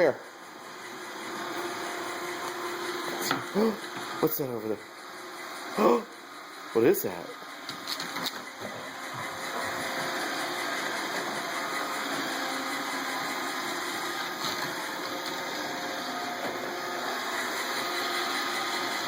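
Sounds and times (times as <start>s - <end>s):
robot vacuum whirring: 0.5s - 5.8s, 6.6s - 19.0s.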